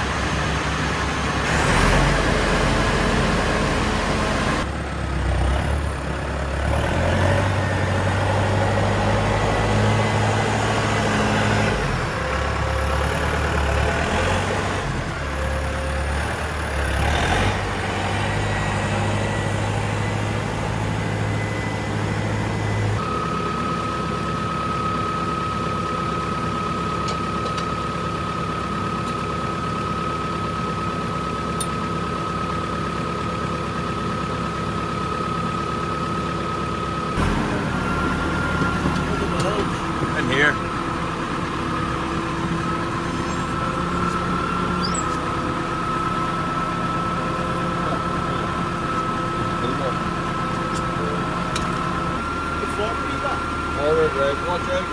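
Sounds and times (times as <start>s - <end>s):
farm machinery engine running: 0.0s - 54.9s.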